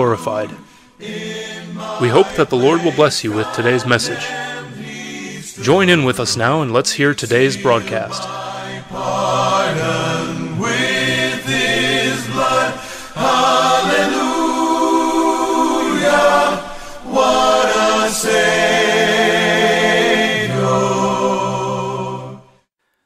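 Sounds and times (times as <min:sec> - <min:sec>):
choir singing a hymn: 0:00.0 - 0:22.7.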